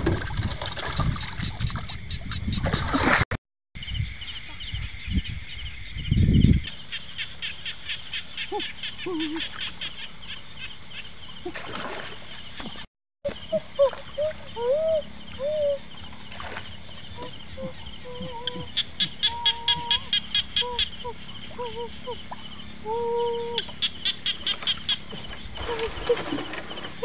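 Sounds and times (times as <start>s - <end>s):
frogs and insects chorus: 0.5s - 3.2s, 3.8s - 27.0s.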